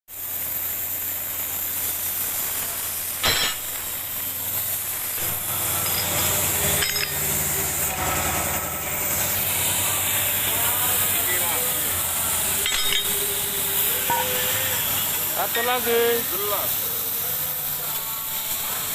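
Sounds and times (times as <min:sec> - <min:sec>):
plasma cutter hissing: 0:00.1 - 0:18.9.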